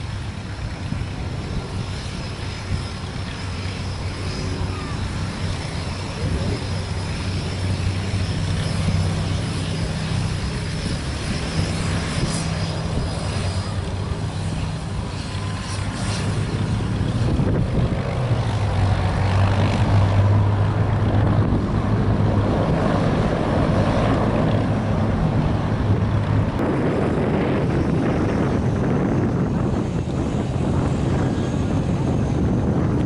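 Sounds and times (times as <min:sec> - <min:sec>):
propeller plane taxiing: 0:00.0 - 0:33.0.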